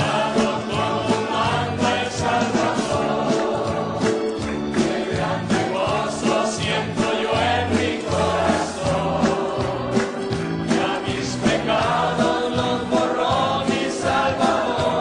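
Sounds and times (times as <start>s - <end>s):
choir singing with backing music: 0.0s - 15.0s.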